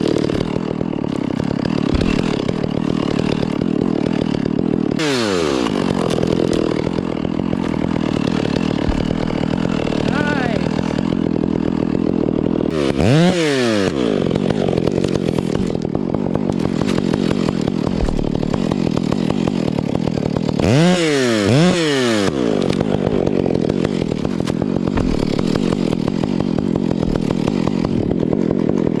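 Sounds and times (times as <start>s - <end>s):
chainsaw idling and revving: 0.0s - 29.0s.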